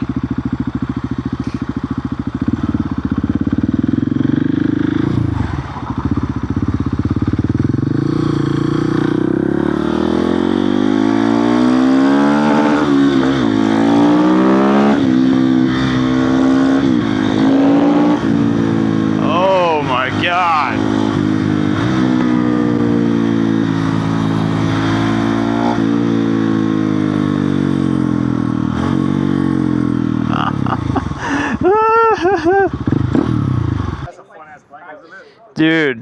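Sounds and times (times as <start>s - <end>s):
motorcycle engine revving: 0.0s - 19.3s, 20.8s - 31.4s, 32.7s - 34.1s.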